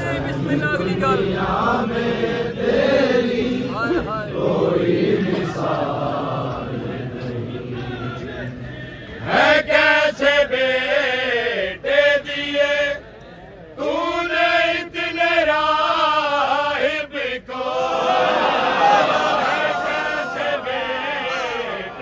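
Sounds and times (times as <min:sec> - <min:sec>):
men chanting together: 0:00.1 - 0:13.0, 0:13.8 - 0:22.0.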